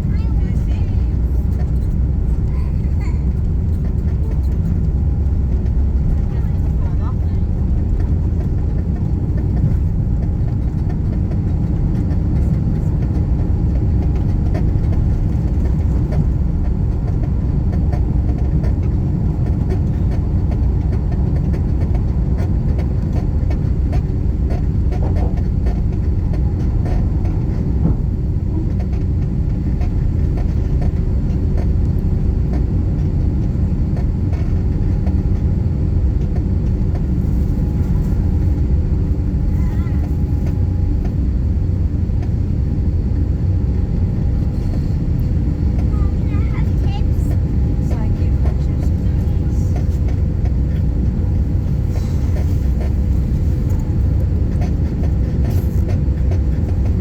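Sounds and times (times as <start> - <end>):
aircraft cabin engine rumble: 0.0 - 57.0.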